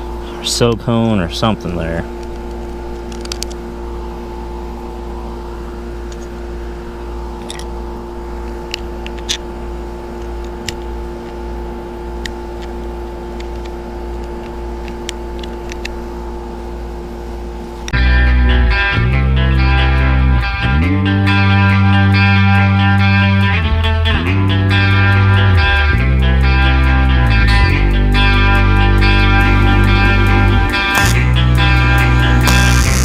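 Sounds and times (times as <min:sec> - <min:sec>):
electrical hum with low rumble: 0:00.0 - 0:33.0.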